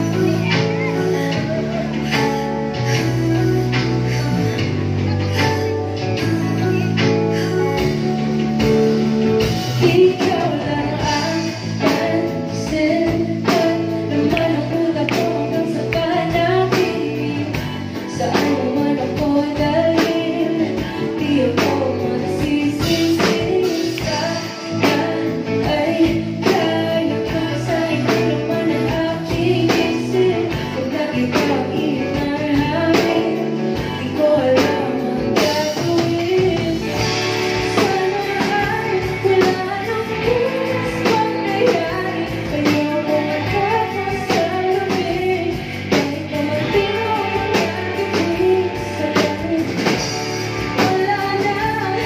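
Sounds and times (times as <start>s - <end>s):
drum-kit beat: 0.0s - 52.0s
pop-rock band playing: 0.0s - 52.0s
woman singing: 0.0s - 52.0s.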